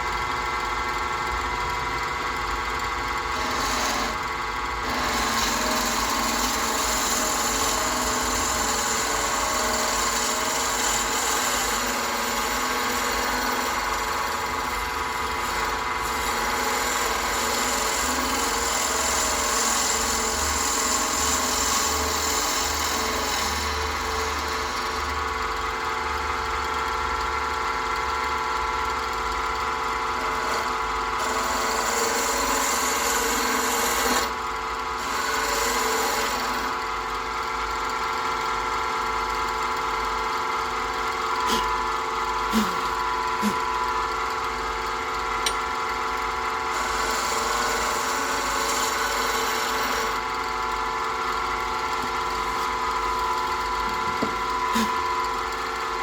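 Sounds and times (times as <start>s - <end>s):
wood lathe humming: 0.0s - 56.0s
tool scraping spinning wood: 1.6s - 38.4s, 39.0s - 56.0s.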